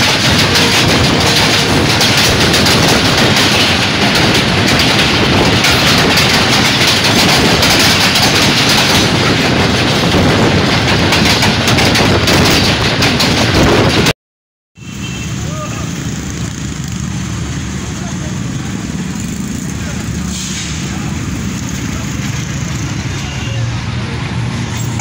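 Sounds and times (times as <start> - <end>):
train wheels rumbling on rail: 0.0 - 14.1, 14.8 - 25.0
wheels clattering over rail joints: 0.0 - 14.1, 16.0 - 25.0.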